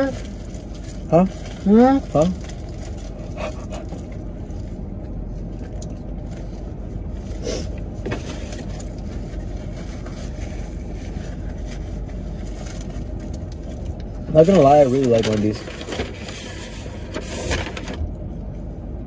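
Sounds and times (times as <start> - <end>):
car cabin hum: 0.0 - 19.0.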